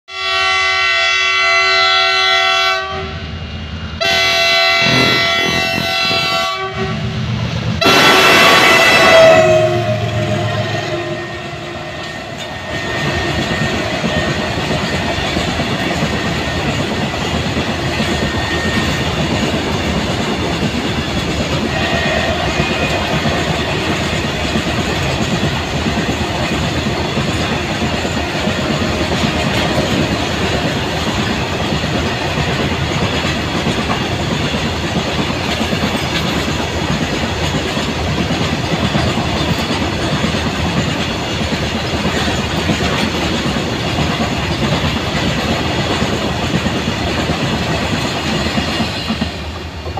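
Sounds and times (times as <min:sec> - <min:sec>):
steel wheels clattering on rails: 0:07.8 - 0:49.9.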